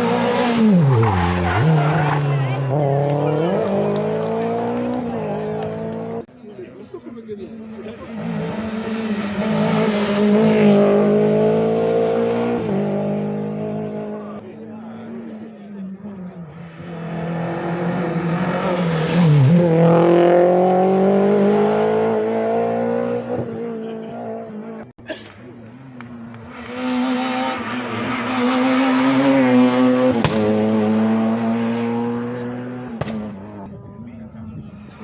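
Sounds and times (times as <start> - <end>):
rally cars passing at full throttle: 0.0 - 6.3, 7.4 - 25.0, 25.6 - 35.0.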